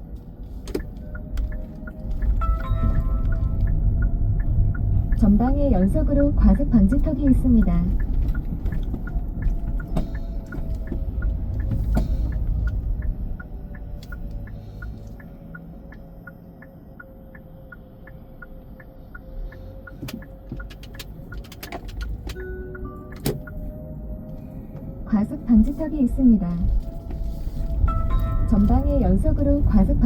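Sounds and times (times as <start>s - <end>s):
road and engine rumble: 0.0s - 30.0s
turn signal ticking: 0.0s - 30.0s.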